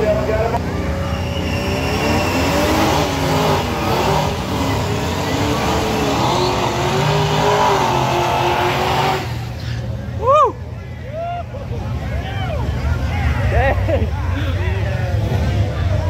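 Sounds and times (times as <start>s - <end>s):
engines revving hard: 0.0s - 10.0s, 12.6s - 16.0s.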